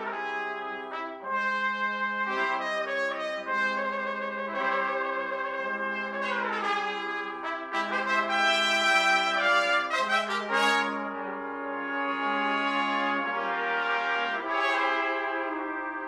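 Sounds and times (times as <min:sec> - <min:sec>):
trumpet ensemble playing chords: 0:00.0 - 0:16.0.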